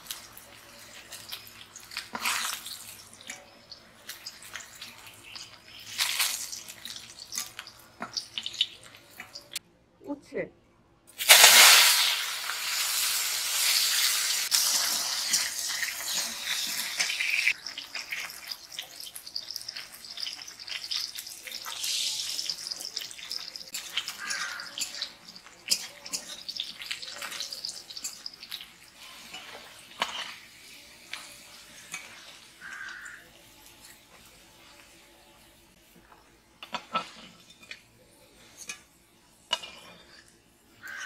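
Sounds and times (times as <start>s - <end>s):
vegetables frying in hot oil: 0.0s - 9.6s, 11.2s - 35.8s.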